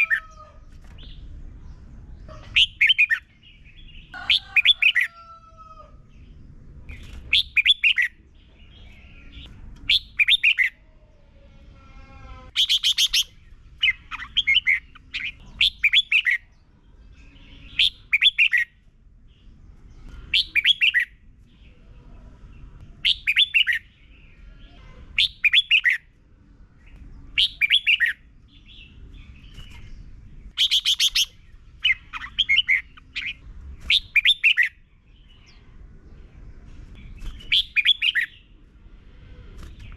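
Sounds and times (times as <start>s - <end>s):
bird singing chirpy phrases: 0.0s - 5.1s, 6.1s - 38.8s.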